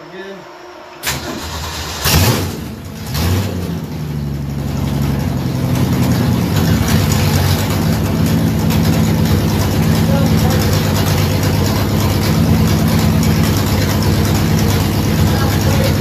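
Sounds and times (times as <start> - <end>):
car engine revving and idling: 0.4 - 16.0.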